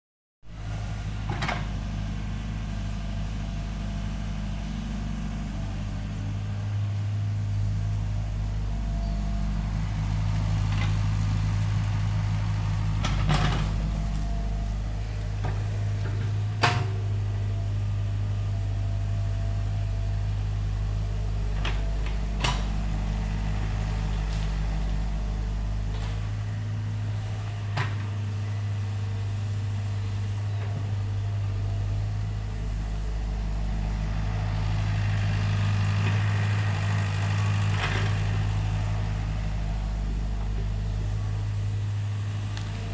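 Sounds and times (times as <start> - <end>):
excavator engine running: 0.5 - 42.9.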